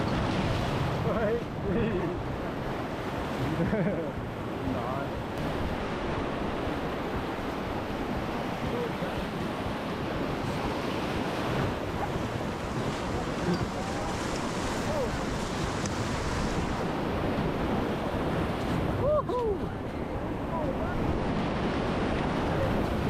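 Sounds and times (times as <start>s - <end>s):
river water rushing: 0.0s - 23.0s
wind buffeting microphone: 0.0s - 23.0s.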